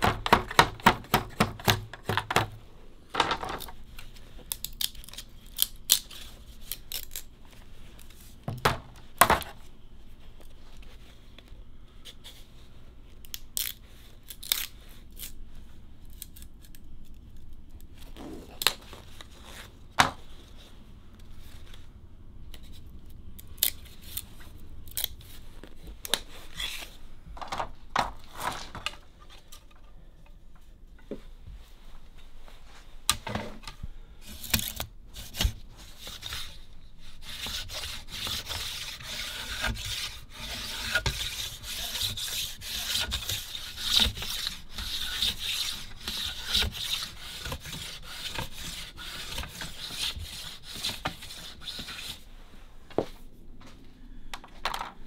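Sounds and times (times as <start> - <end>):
sticks and tools on workbench: 0.0 - 9.7, 16.1 - 21.8, 22.5 - 31.5, 33.0 - 52.3, 52.9 - 55.0.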